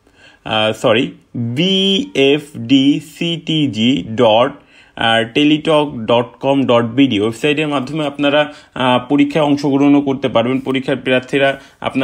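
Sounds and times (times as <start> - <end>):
man speaking in sing-song: 0.4 - 12.0.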